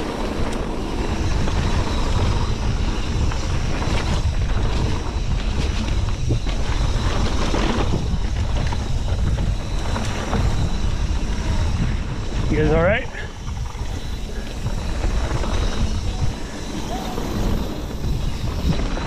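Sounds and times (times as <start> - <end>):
bike rattling: 0.0 - 19.0
wind rush on microphone: 0.0 - 19.0.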